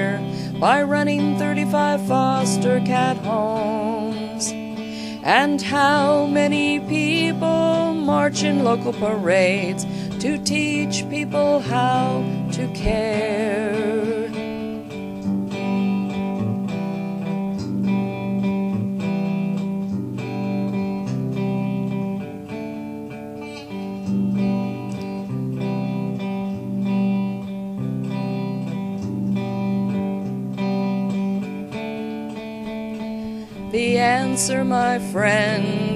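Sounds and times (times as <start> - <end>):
guitar strummed and picked: 0.0 - 35.9.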